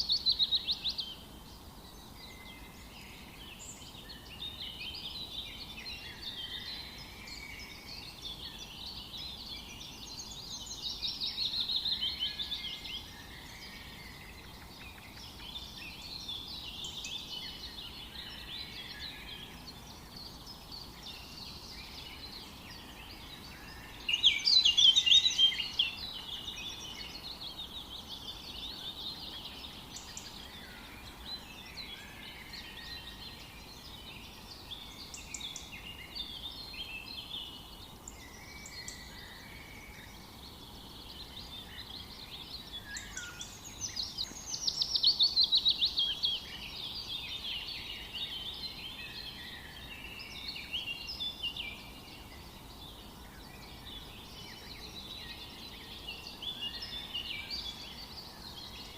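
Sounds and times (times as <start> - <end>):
birds singing and chirping: 0.0 - 58.9
faint background hiss: 0.0 - 58.9.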